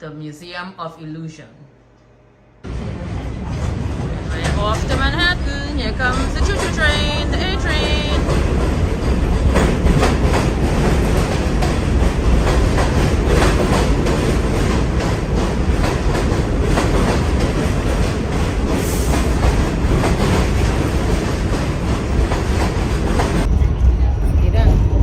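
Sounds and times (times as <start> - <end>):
subway train rumbling: 1.7 - 25.0
wheels clacking over rails: 2.7 - 23.5.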